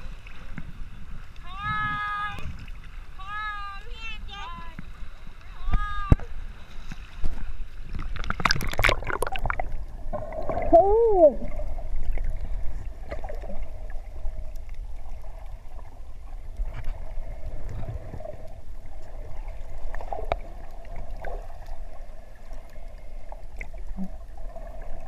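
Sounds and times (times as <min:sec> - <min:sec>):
underwater rumble: 0:00.0 - 0:25.0
faint underwater clicks: 0:03.8 - 0:10.8, 0:11.4 - 0:25.0.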